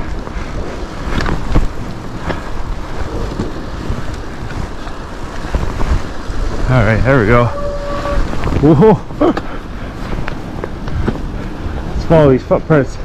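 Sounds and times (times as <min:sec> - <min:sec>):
bike rolling through snow: 0:00.0 - 0:13.0
wind buffeting microphone: 0:00.0 - 0:13.0.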